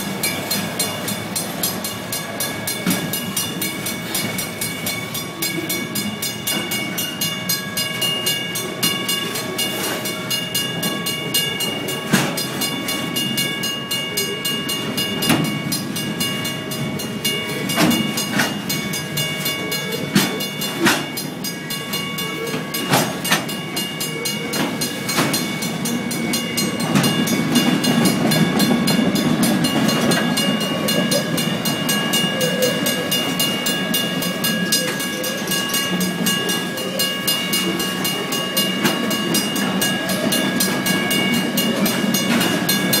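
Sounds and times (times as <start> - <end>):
crossing warning bell ringing: 0.0 - 43.0
freight train wagons rumbling: 0.0 - 43.0
train wheel clicks: 0.0 - 43.0.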